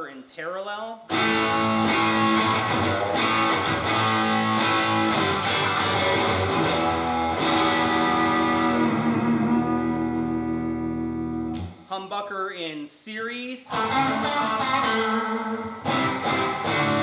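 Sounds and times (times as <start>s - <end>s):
overdriven electric guitar chords: 1.1s - 11.9s, 13.7s - 17.0s.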